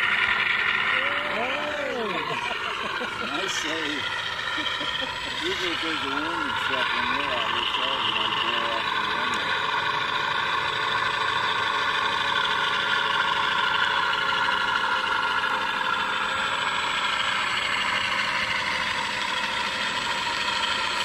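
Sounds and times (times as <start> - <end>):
model airplane motor running: 0.0 - 21.0.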